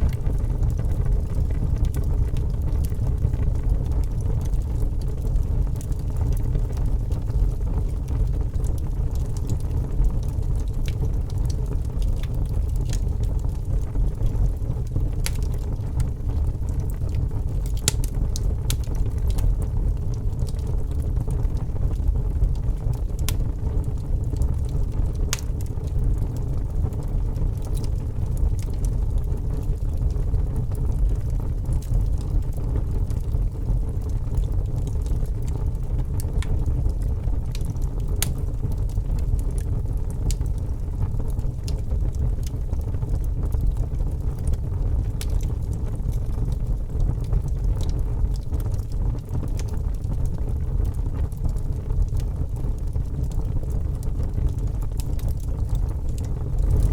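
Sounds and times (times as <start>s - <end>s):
fire crackling in fireplace: 0.0s - 56.9s.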